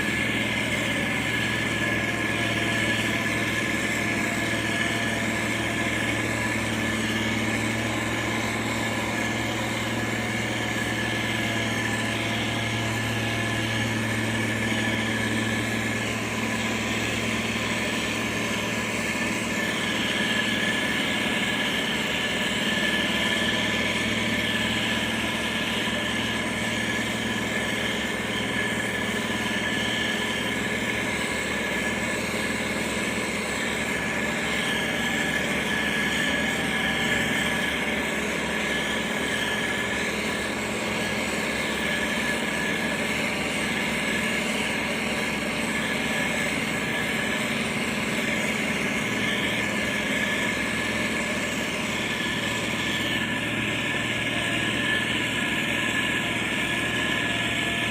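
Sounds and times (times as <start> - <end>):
heavy diesel machines running: 0.0 - 57.9
steady high tone: 0.0 - 57.9.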